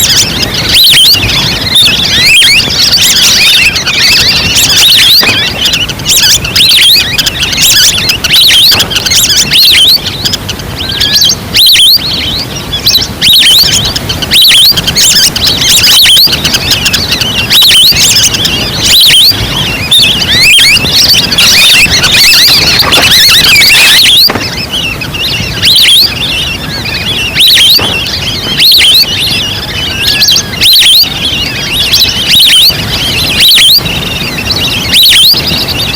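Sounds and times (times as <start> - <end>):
ducks calling: 0.0 - 35.9.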